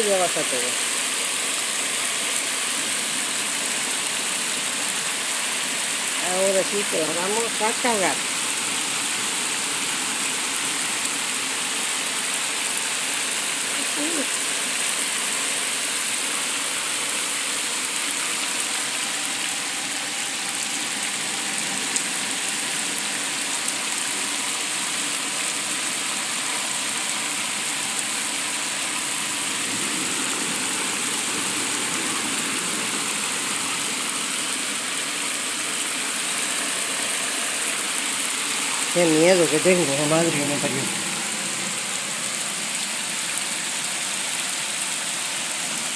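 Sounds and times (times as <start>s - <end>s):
floodwater rushing: 0.0s - 45.9s
torrential rain: 0.0s - 45.9s.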